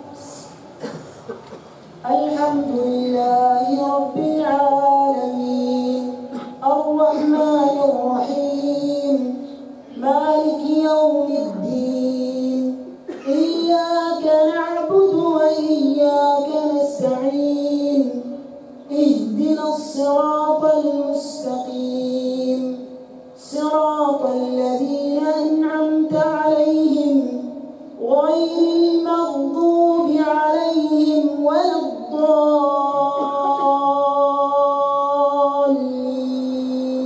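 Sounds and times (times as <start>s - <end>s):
man chanting melodically: 2.0s - 37.0s.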